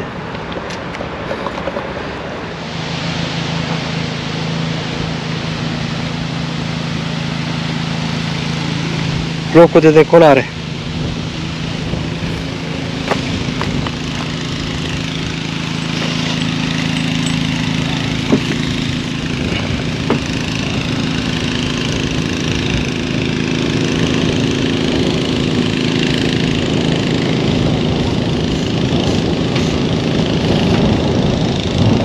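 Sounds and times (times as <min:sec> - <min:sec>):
motor humming: 0:02.4 - 0:32.0.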